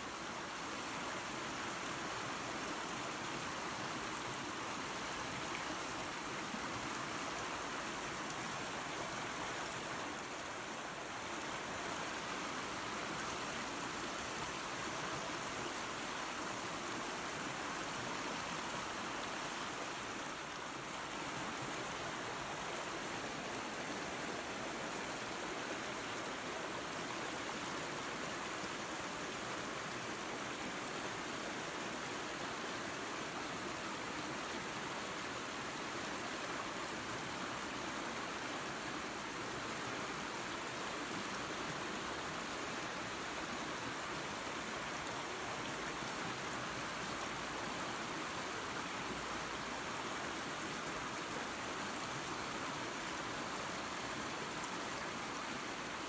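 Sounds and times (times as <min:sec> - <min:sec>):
waterfall and creek rushing: 0:00.0 - 0:56.0.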